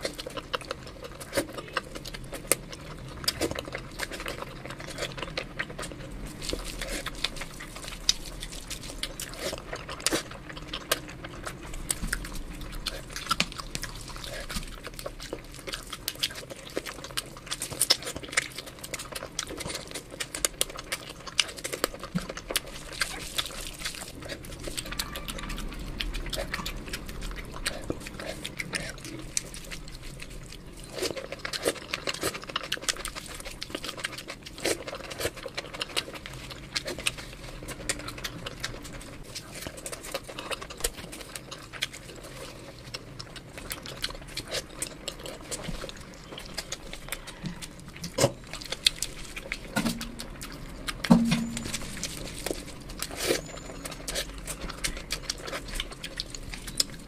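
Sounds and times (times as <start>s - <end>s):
wet chewing and lip smacking: 0.0s - 57.0s.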